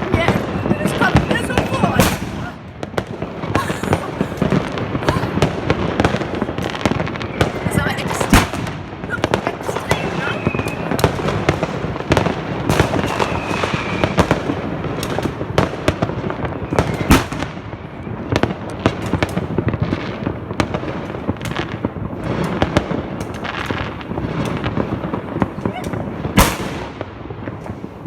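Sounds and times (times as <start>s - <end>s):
continuous crackling: 0.0s - 28.0s
fireworks bangs and pops: 0.0s - 28.0s.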